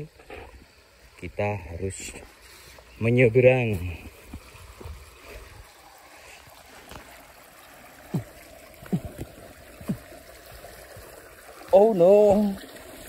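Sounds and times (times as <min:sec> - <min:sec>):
stream rushing and trickling: 0:00.0 - 0:13.0.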